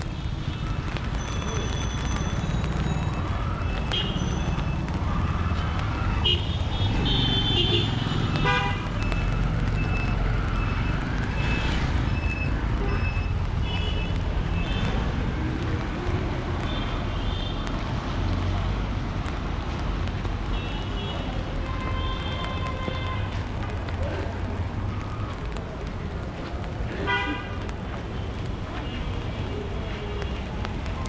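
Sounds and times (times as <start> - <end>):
rumble of vehicle engines: 0.0 - 31.0.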